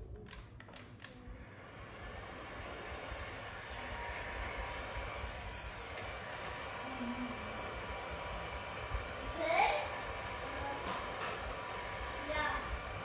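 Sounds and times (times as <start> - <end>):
hot-air tool blowing with whine: 1.4 - 13.0.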